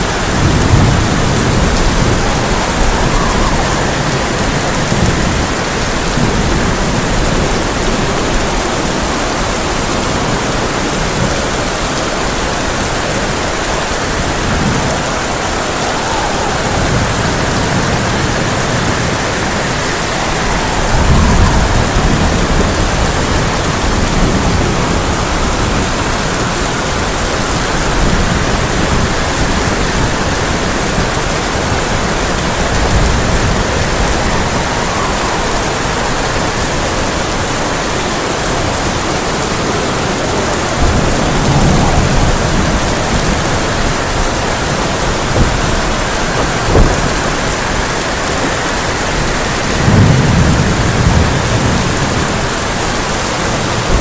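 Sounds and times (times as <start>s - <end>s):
heavy rain on a tin roof: 0.0s - 54.0s
low rumble of thunder: 0.0s - 54.0s.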